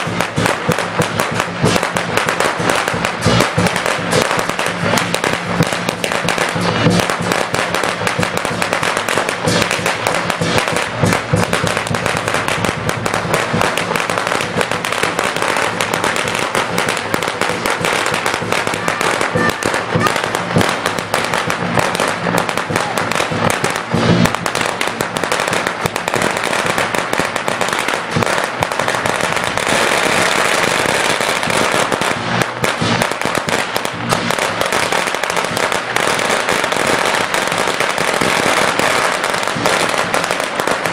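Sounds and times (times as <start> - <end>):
firecrackers popping: 0.0 - 40.9.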